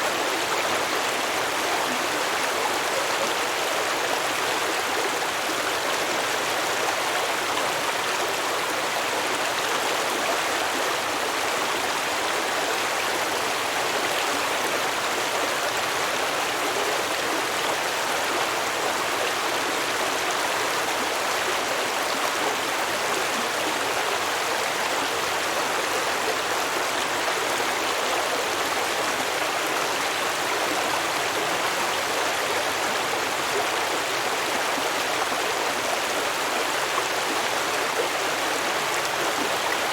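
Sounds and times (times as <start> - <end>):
stream water babbling over rocks: 0.0 - 39.9.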